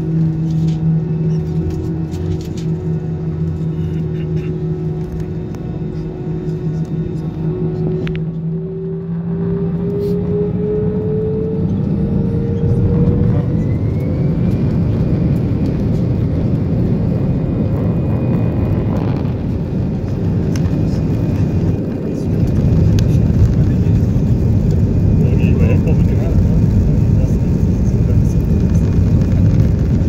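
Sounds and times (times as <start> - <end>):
engine and runway rush: 0.0 - 30.0
jet engine whine: 0.0 - 30.0.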